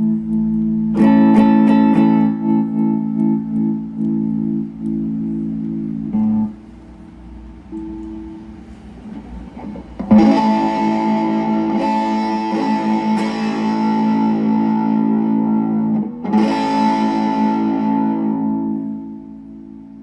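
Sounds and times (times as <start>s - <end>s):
electric guitar chords ringing: 0.0s - 20.0s.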